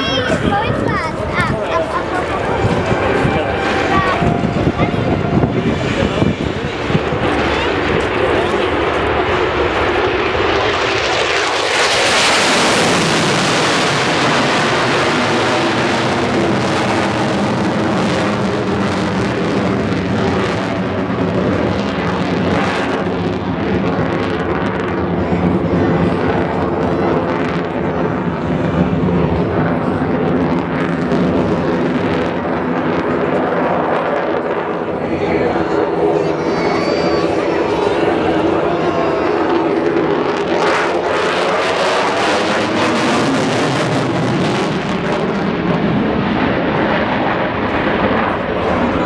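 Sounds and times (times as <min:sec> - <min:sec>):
jet engine roaring: 0:00.0 - 0:49.0.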